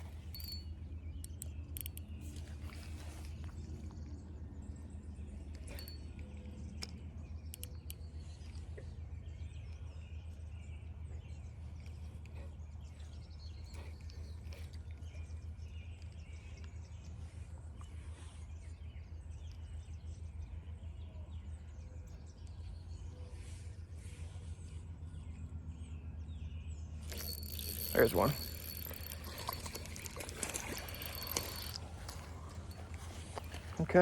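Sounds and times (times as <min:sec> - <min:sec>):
faint bird chirps: 0:00.0 - 0:34.0.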